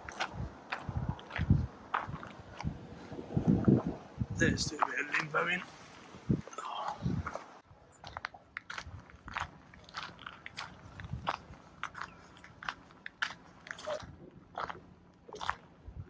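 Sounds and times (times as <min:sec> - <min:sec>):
footsteps crunching on twigs and leaves: 0:00.0 - 0:04.0, 0:04.7 - 0:06.5, 0:07.2 - 0:15.7.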